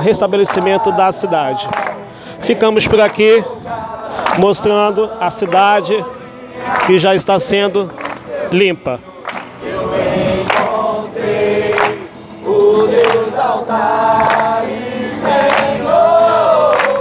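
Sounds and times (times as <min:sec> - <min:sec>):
group singing praise song: 0:00.0 - 0:17.0.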